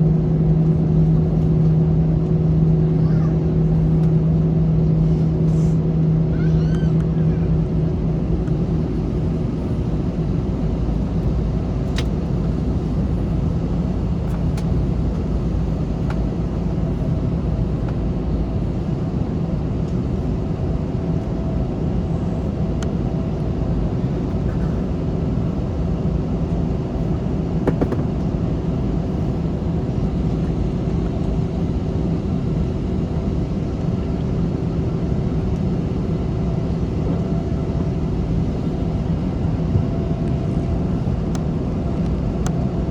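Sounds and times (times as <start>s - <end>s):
airplane cabin engine hum: 0.0s - 42.9s.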